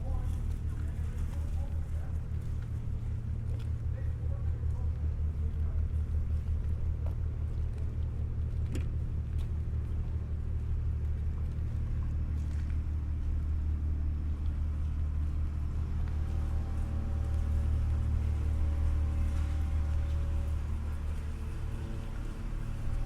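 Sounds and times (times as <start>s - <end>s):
heavy engine rumbling: 0.0s - 23.0s.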